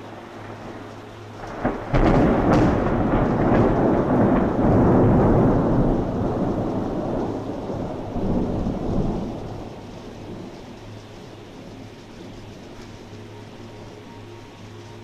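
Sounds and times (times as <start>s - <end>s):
thunder crack and rumble: 0.0s - 14.0s.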